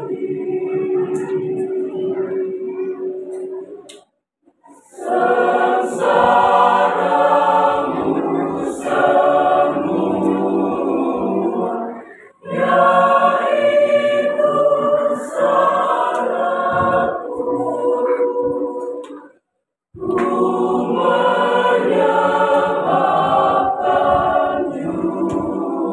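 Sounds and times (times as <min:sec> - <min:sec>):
choir singing a cappella: 0:00.0 - 0:03.8, 0:04.7 - 0:19.4, 0:20.0 - 0:25.9.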